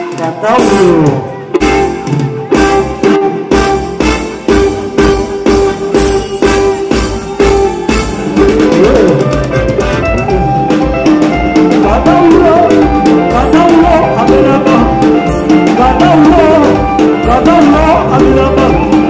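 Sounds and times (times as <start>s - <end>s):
live band playing dance music: 0.0s - 19.0s
steady drum beat: 0.0s - 19.0s.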